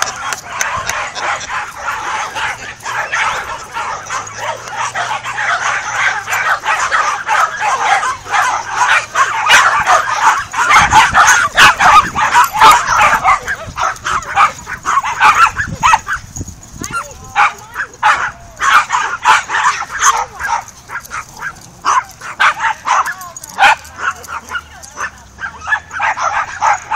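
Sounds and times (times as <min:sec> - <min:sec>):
small dogs yapping and barking: 0:00.0 - 0:26.9.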